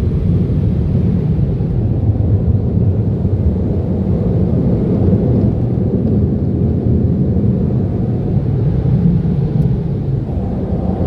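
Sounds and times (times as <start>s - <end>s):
car wash low rumble: 0.0s - 11.0s.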